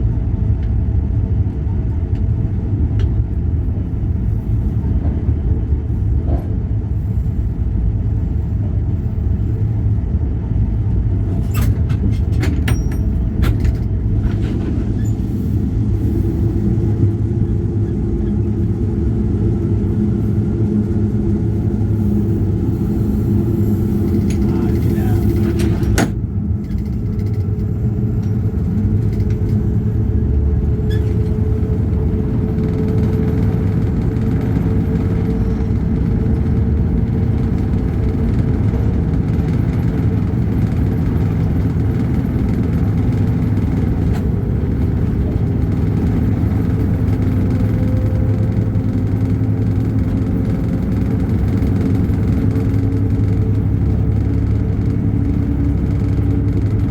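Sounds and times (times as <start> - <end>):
engine running low drone: 0.0 - 56.9.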